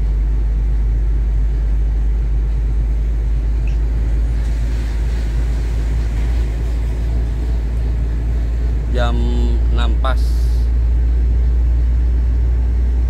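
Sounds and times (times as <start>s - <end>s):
truck engine and tyres rumbling: 0.0s - 13.0s.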